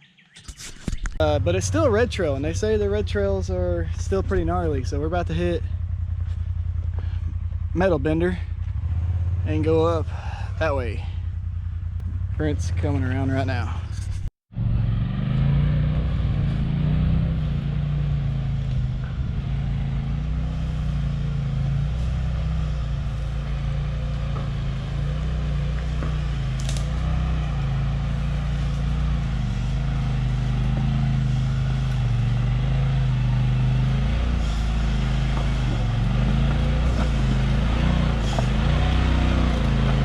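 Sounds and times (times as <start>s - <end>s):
utv engine running: 0.1s - 40.0s.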